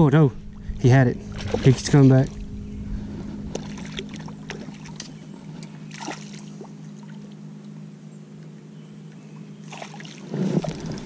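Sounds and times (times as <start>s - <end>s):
electric trolling motor humming: 0.3s - 11.0s.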